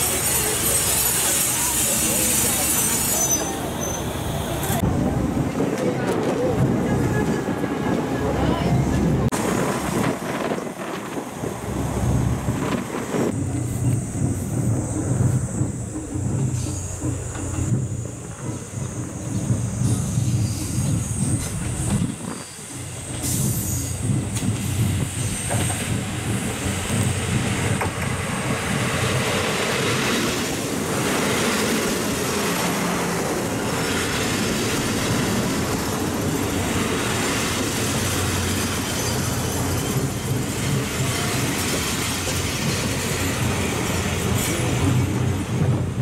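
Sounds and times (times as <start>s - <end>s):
diesel train braking to a stop: 0.0s - 4.8s, 13.3s - 46.0s.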